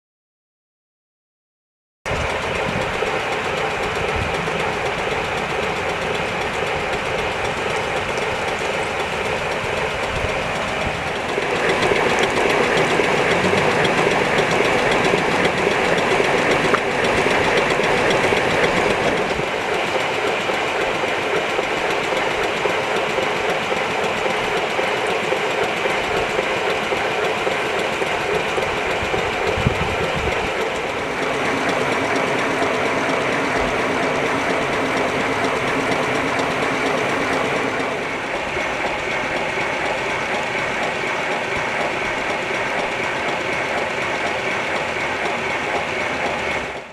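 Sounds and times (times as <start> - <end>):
model steam locomotive clattering: 2.1 - 46.9.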